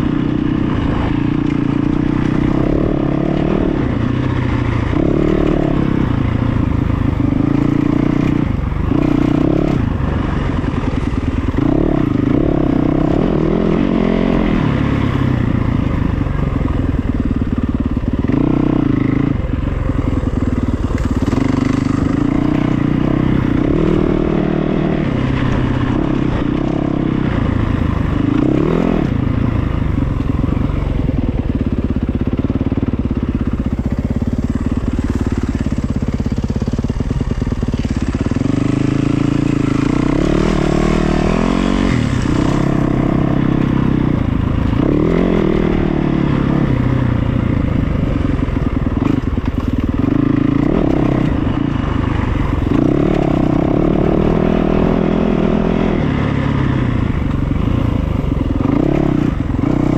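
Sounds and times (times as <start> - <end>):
vehicle engine revving: 0.0 - 31.0, 31.7 - 59.9.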